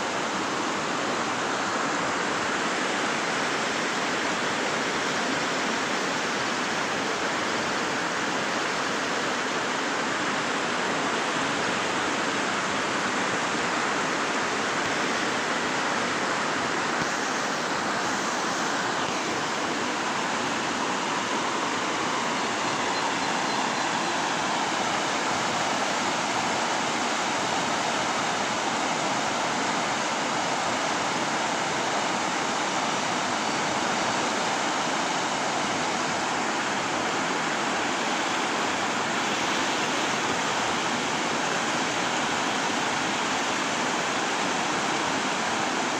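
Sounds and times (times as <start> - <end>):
water rushing over rocks: 0.0 - 45.9.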